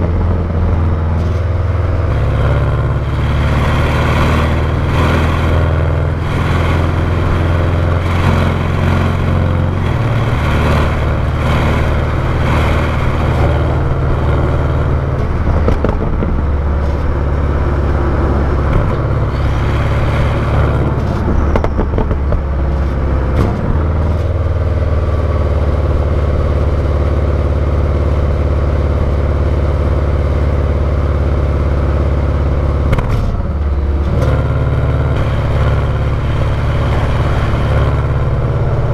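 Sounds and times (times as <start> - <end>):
car exhaust note: 0.0 - 38.9.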